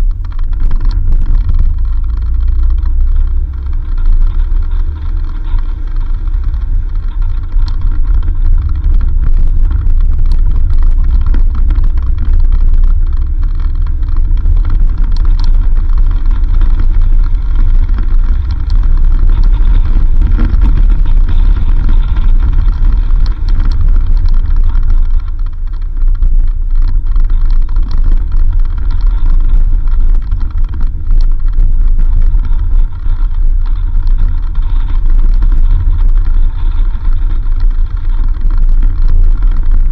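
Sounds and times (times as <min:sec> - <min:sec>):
small knocks and rattles: 0:00.0 - 0:39.9
vehicle driving on dirt road: 0:00.0 - 0:39.9.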